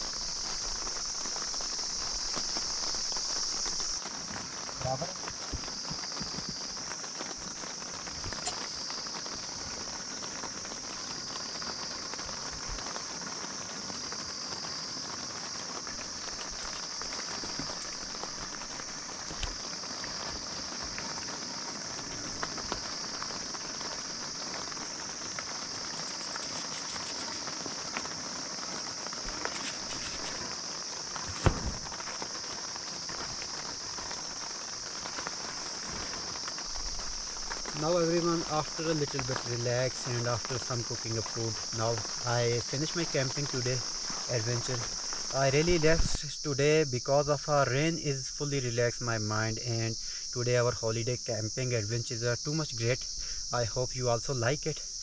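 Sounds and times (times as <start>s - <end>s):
rain pattering on a tent: 0.0s - 55.0s.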